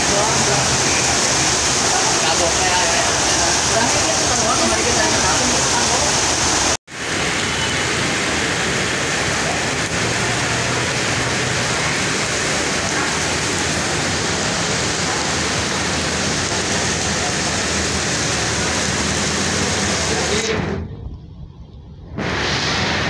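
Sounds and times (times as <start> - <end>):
heavy rain on pavement: 0.0 - 20.8, 22.2 - 23.0.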